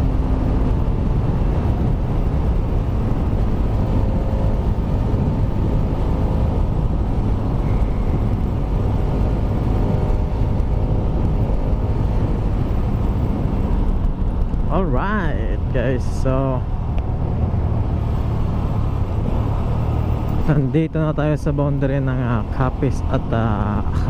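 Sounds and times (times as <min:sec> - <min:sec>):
motorcycle engine running: 0:00.0 - 0:20.9
wind rumble on microphone: 0:00.0 - 0:24.0.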